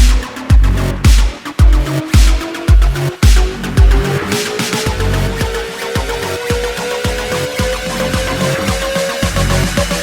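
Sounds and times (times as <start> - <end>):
electronic dance music: 0.0 - 10.0
heavy bass beat: 0.0 - 10.0.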